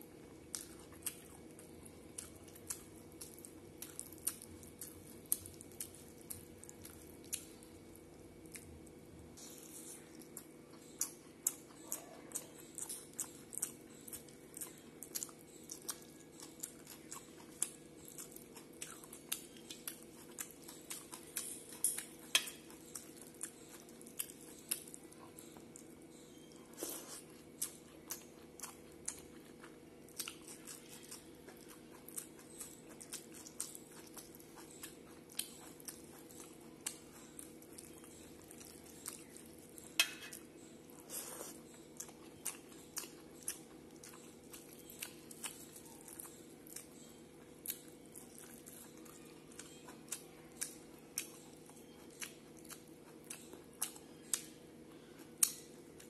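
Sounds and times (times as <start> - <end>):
food crunching: 0.4 - 56.0
chewing and mouth clicks: 0.5 - 8.8, 9.4 - 56.0.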